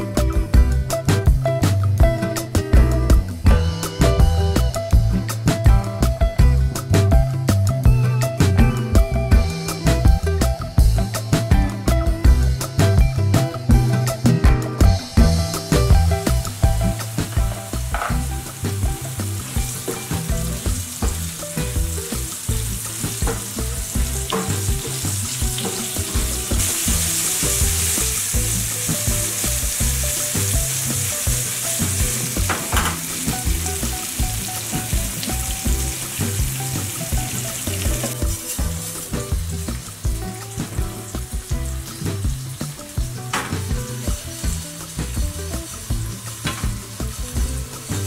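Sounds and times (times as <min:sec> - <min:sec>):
vegetables sizzling in hot oil: 0:09.4 - 0:48.0.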